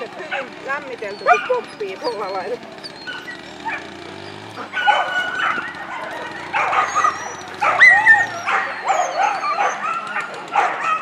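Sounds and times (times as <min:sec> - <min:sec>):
dog yipping and whining: 0:00.2 - 0:11.0.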